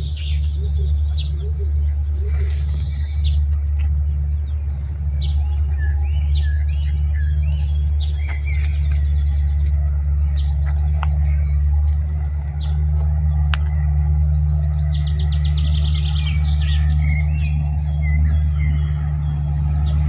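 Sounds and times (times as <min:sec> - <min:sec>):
bird trill: 0:00.0 - 0:20.0
songbirds chirping and singing: 0:00.0 - 0:20.0
steady low rumble: 0:00.0 - 0:20.0.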